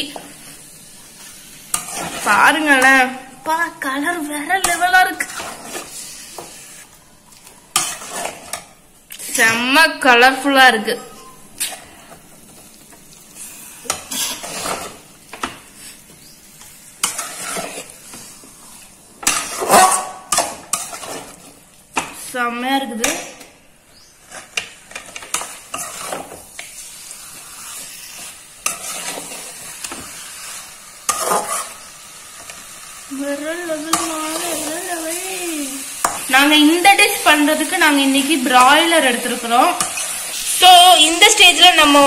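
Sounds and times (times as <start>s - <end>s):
food sizzling: 0.0s - 42.0s
spatula scraping pan: 1.2s - 9.8s, 13.4s - 22.4s, 24.2s - 42.0s.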